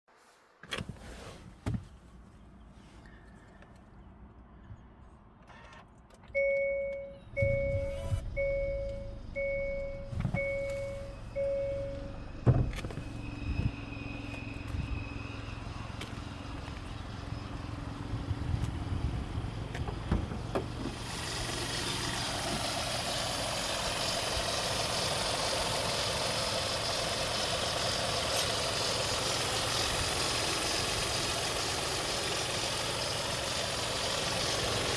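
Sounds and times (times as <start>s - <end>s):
car engine whirring: 5.4s - 34.9s.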